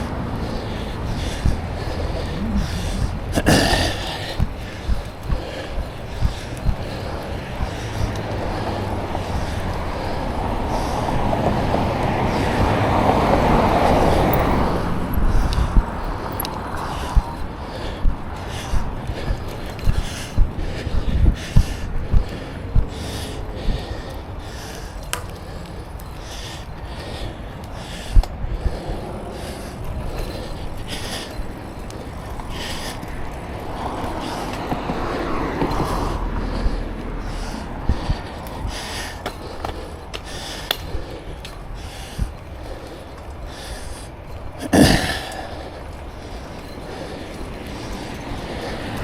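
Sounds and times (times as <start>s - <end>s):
wind rumble on microphone: 0.0s - 24.4s, 25.2s - 40.2s
bicycle tyres rolling: 0.0s - 49.0s
passing traffic rushing: 0.0s - 49.0s
rider breathing: 0.0s - 49.0s.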